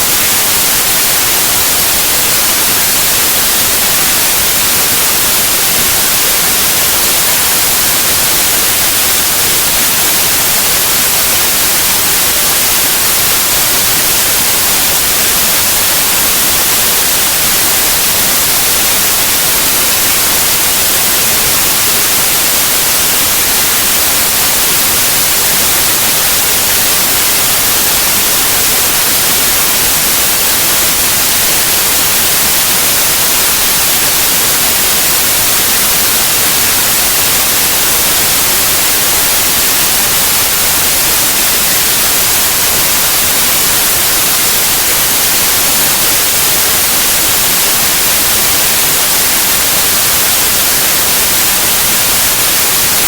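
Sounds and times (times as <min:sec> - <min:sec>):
loud white noise: 0:00.0 - 0:53.0.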